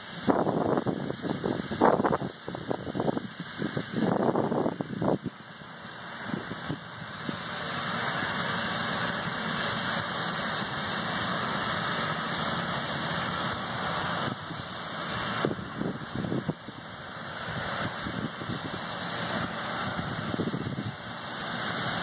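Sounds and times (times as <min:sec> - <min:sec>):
lawn mower engine running: 0:00.0 - 0:22.0
wind gusts on microphone: 0:00.1 - 0:05.4, 0:06.1 - 0:12.1, 0:13.0 - 0:22.0.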